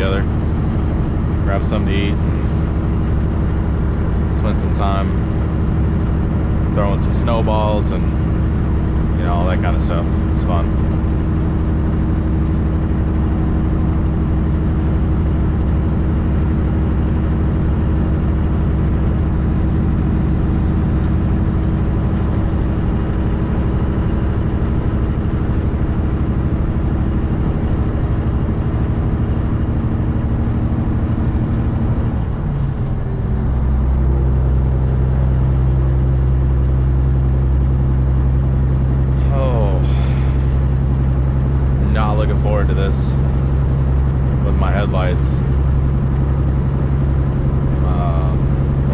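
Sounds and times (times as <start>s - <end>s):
diesel truck engine running: 0.0s - 48.9s
faint high whine: 0.0s - 48.9s.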